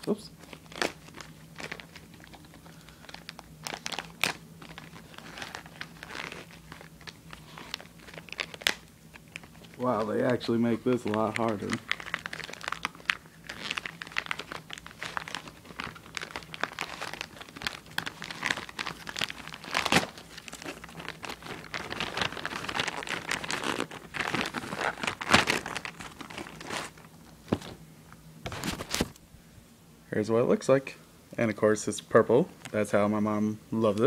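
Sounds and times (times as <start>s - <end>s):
packaging crinkling and tearing: 0.4s - 27.8s, 28.5s - 29.2s.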